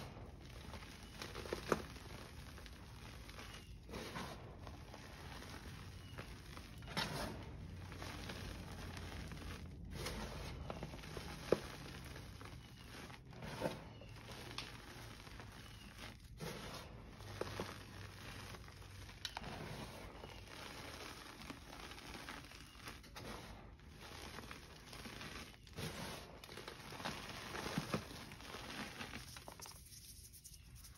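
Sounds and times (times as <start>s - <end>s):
hands raking through chalk powder: 0.0s - 30.9s.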